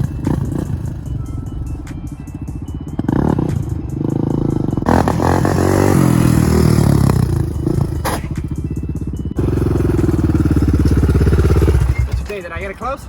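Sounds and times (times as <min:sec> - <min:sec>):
quad engine revving: 0:00.0 - 0:01.2, 0:03.0 - 0:12.3.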